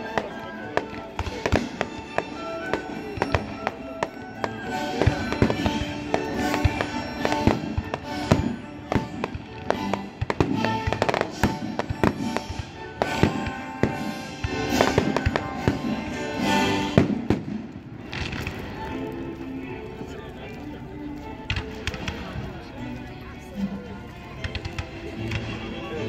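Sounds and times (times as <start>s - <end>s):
fireworks bangs and crackles: 0.0s - 19.4s, 21.4s - 22.8s, 24.3s - 26.0s
orchestra playing held notes: 0.0s - 26.0s.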